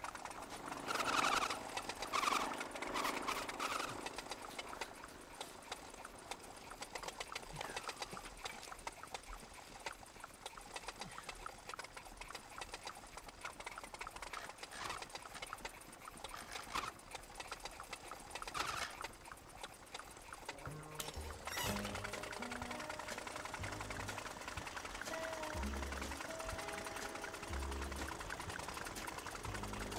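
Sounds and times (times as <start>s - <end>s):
moped engine ticking: 0.0s - 29.9s.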